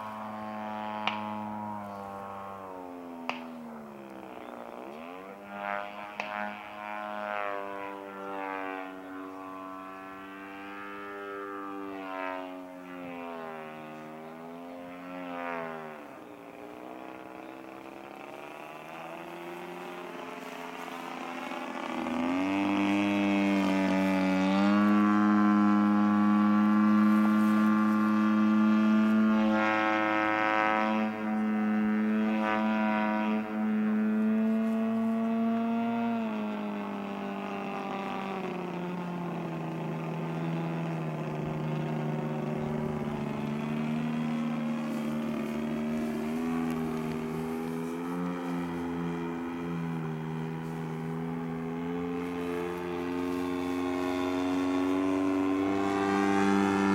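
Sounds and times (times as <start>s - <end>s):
model plane engine: 0.0s - 56.9s.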